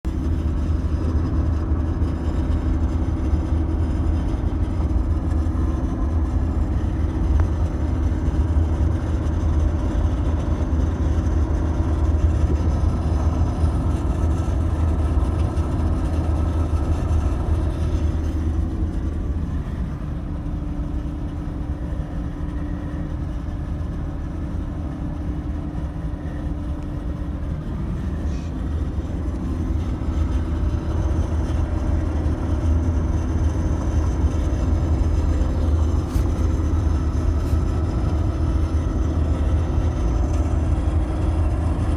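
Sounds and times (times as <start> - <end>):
vehicle road rumble: 0.1 - 41.9.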